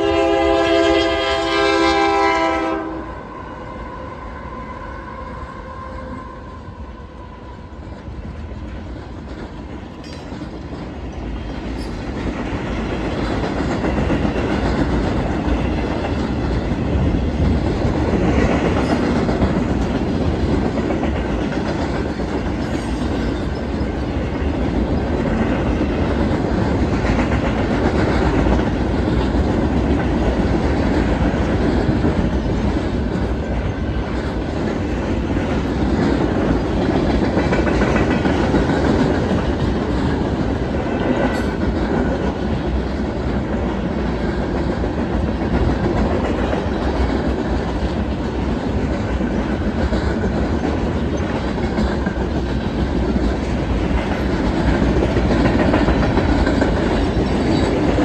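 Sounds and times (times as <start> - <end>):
train wheels clickety-clack: 6.1 - 58.0.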